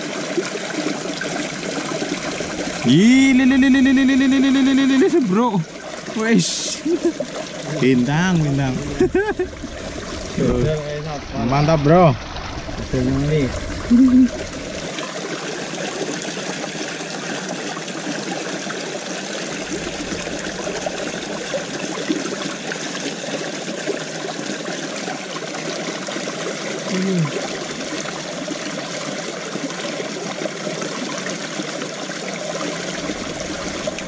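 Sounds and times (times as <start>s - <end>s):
water trickling over rocks: 0.0s - 34.0s.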